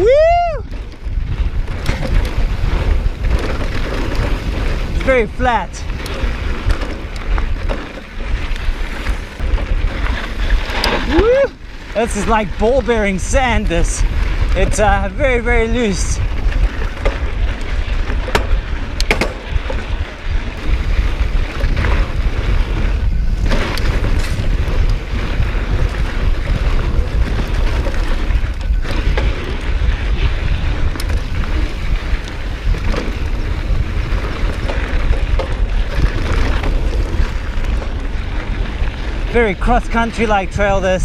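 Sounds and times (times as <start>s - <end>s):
bike tyre and frame noise: 0.0s - 41.0s
wind rumbling on microphone: 0.0s - 41.0s.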